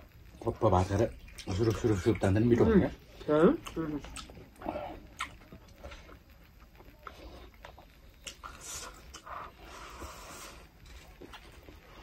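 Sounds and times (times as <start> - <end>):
wet chewing: 0.9 - 2.6, 3.2 - 12.0.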